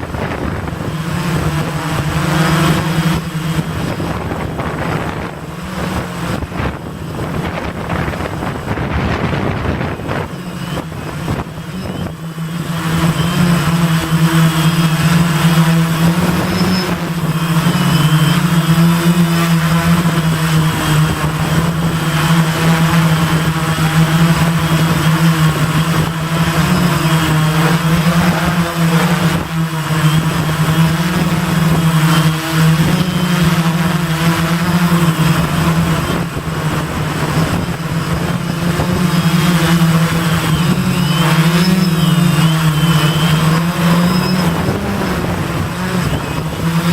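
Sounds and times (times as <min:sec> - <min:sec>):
quadcopter propellers buzzing: 0:00.0 - 0:46.9
wind rumble on microphone: 0:00.0 - 0:46.9.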